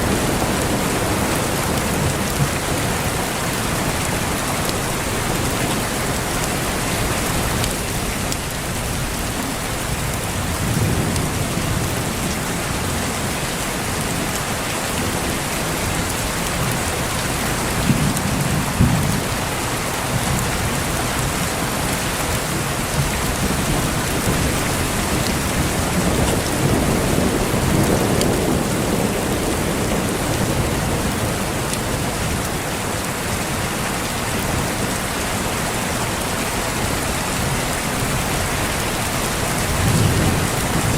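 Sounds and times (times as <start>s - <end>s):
thunder rumbling: 0.0s - 32.8s, 37.9s - 40.9s
heavy rain hissing: 0.0s - 40.9s.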